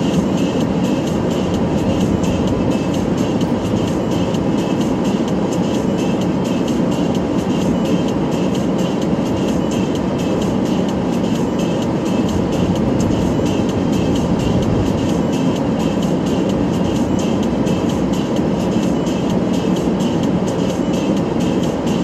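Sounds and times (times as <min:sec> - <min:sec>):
music playing: 0:00.0 - 0:22.0
road and engine noise: 0:00.0 - 0:22.0.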